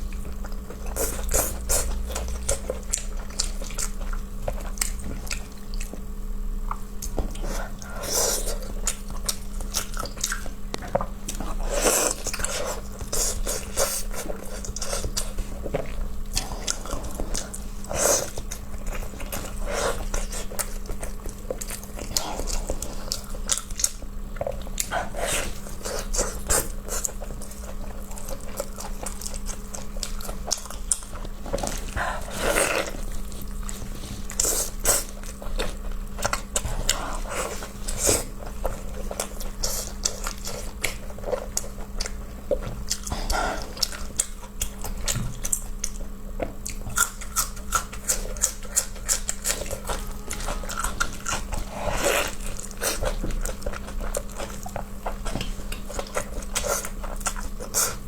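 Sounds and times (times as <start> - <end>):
steady low hum: 0.0 - 58.0
wet chewing and smacking: 0.0 - 58.0.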